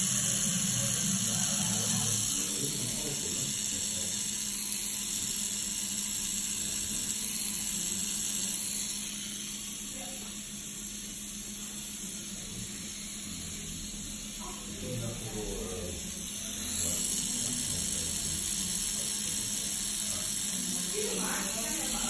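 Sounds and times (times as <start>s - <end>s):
tattoo machine humming: 0.0s - 22.0s.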